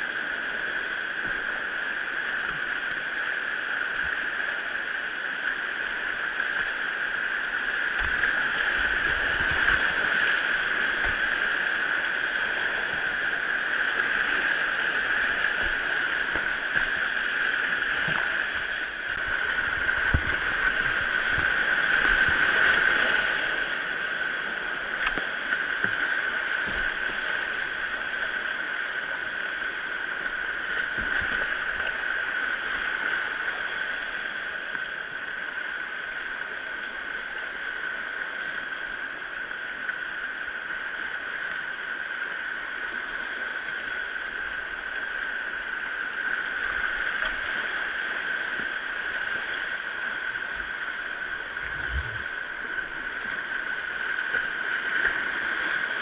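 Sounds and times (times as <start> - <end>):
stream water gurgling over rocks: 0.0 - 56.0.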